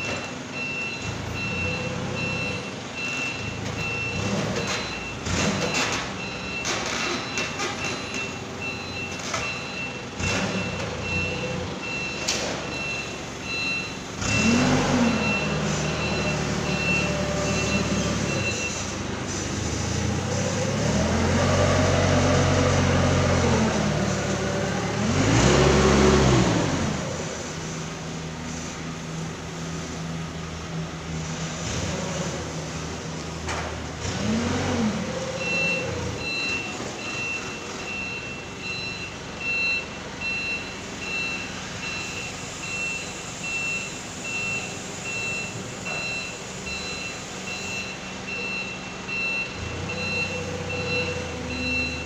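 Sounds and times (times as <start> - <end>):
forklift reversing alarm beeping: 0.0 - 27.9, 34.0 - 52.0
forklift engine running and revving: 0.0 - 52.0.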